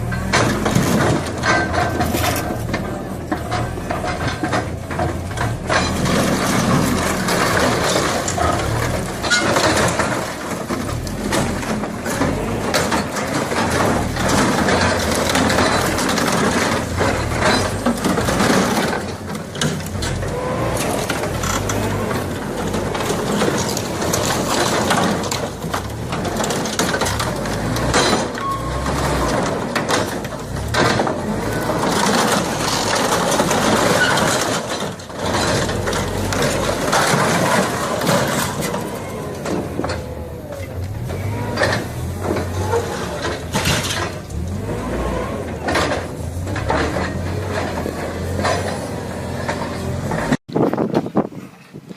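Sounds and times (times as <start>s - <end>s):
construction machinery engine running: 0.0s - 50.4s
clatter of knocks and scraping: 0.0s - 51.2s.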